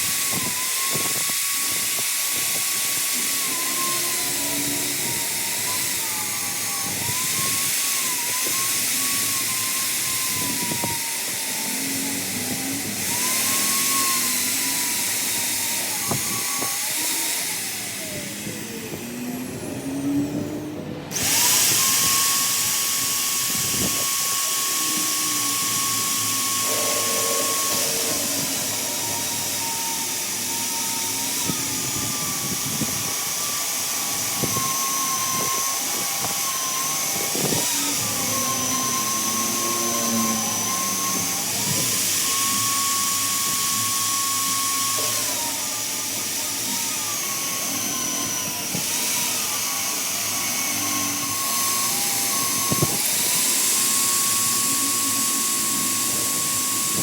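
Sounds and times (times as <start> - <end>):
power tool whining on metal: 0.0 - 57.0.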